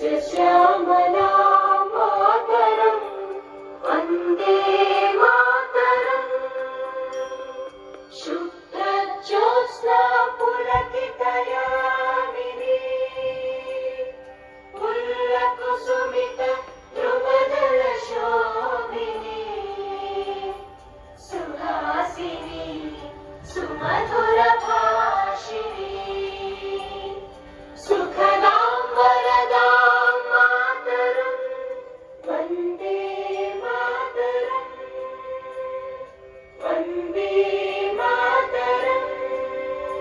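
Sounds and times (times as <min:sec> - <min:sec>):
choir-like singing: 0:00.0 - 0:40.0.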